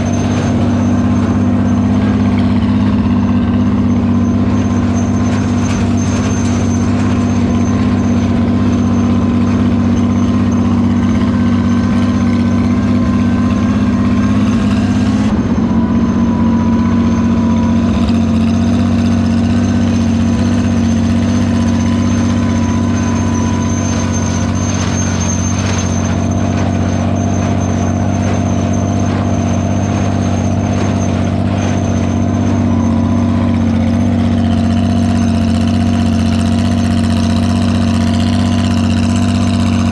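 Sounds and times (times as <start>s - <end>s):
thin high whine: 0.0s - 39.9s
tractor engine running: 0.0s - 39.9s.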